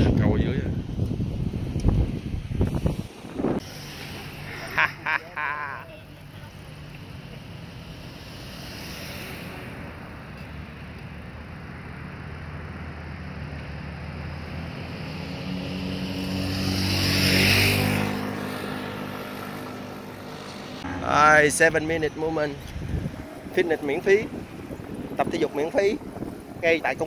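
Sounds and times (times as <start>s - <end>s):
vehicle engine passing: 2.0s - 26.7s.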